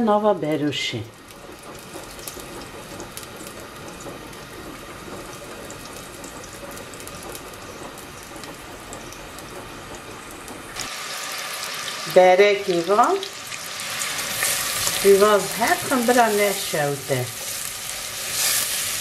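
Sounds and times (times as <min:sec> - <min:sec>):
onion sizzling in hot oil: 0:00.0 - 0:19.0.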